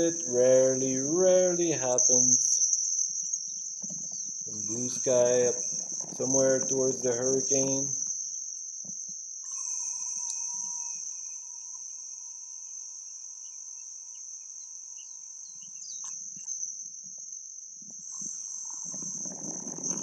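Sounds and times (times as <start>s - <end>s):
insects chirring: 0.0s - 20.0s
short insect chirps: 0.0s - 20.0s.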